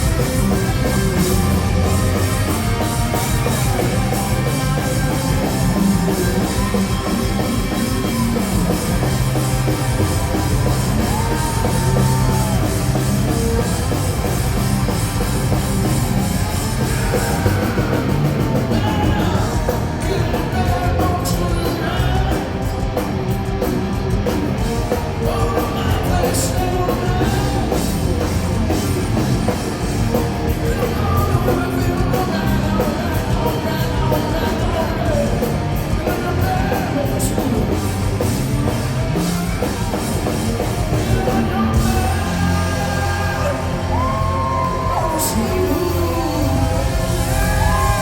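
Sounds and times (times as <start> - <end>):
bass guitar: 0.0 - 48.0
drums: 0.0 - 48.0
electric guitars: 0.0 - 48.0
person singing: 0.4 - 15.8, 16.4 - 22.8, 25.2 - 37.8, 40.8 - 48.0.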